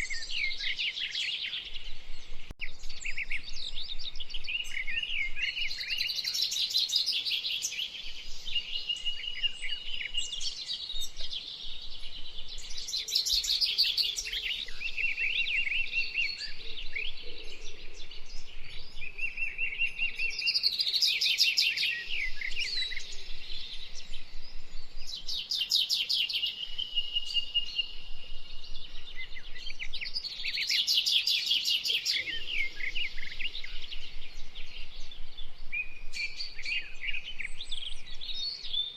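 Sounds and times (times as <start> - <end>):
birds singing: 0.0 - 38.9.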